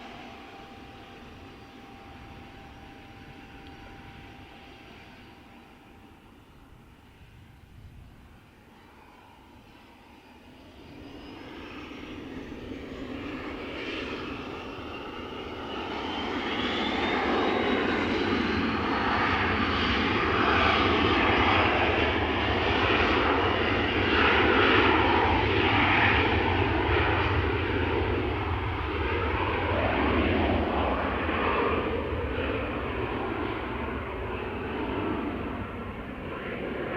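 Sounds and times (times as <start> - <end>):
airliner engines whining: 0.0 - 36.9.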